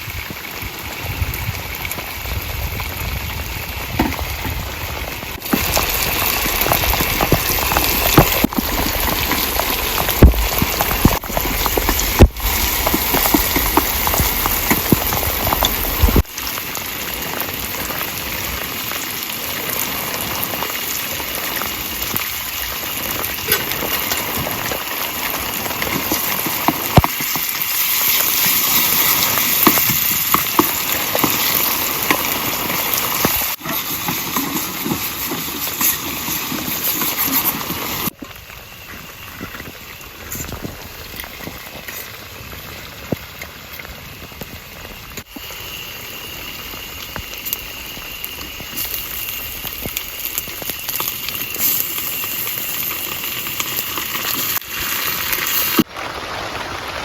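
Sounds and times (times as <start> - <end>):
heavy rain falling: 0.0 - 57.0
raindrops smacking close by: 0.0 - 57.0.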